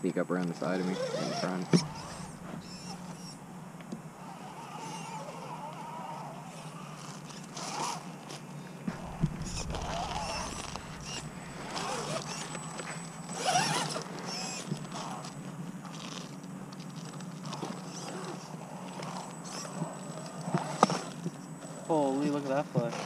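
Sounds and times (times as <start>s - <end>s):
electric motors whining: 0.5s - 22.4s.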